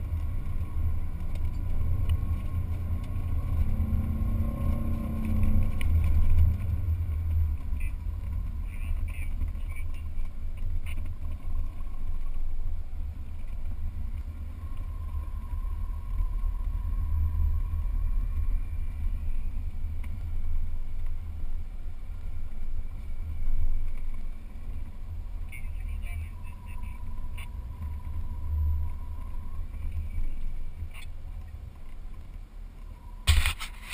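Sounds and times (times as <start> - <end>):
deep engine rumble: 0.0 - 33.9
wind rumble: 0.0 - 33.9.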